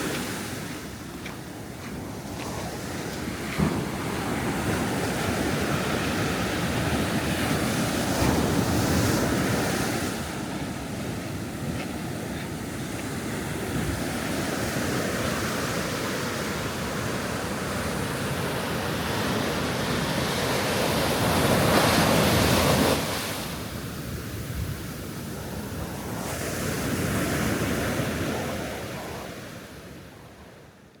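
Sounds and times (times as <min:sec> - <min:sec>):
ocean waves breaking on beach: 0:00.0 - 0:30.9.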